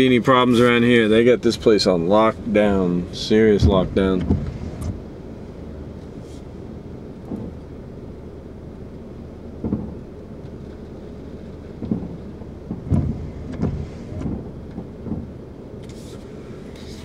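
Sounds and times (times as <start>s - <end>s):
car road rumble: 0.0s - 17.0s
wind buffeting thumps: 0.0s - 17.0s.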